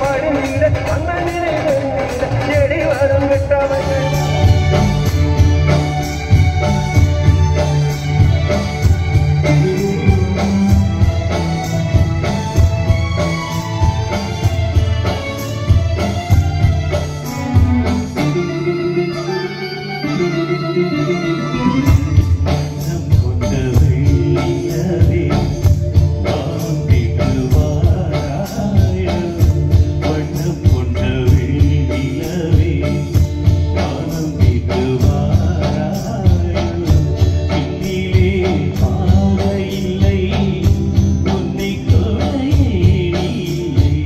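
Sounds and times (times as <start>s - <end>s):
man singing: 0.0s - 7.6s, 9.0s - 11.5s, 18.0s - 44.0s
hand drums beating: 0.0s - 18.5s, 21.8s - 44.0s
keyboard: 0.0s - 44.0s.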